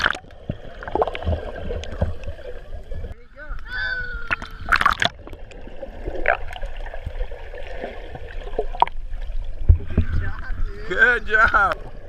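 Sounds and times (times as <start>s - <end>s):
underwater gurgling and sloshing: 0.0s - 12.0s.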